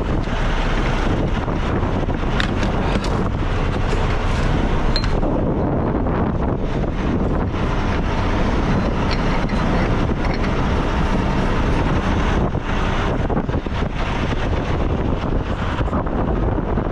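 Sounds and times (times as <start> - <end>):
diesel truck engine idling: 0.0 - 16.9
wind buffeting microphone: 0.0 - 16.9.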